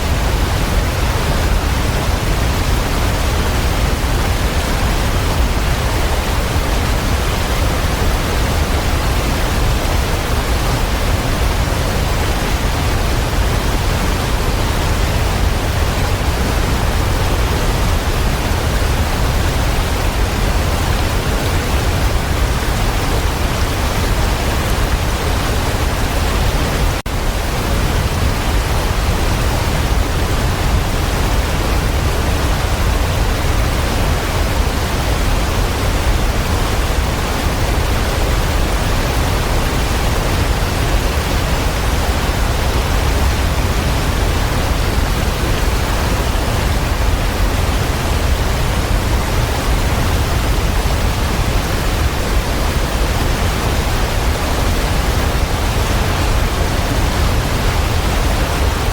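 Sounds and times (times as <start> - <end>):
waterfall rushing water: 0.0 - 58.9.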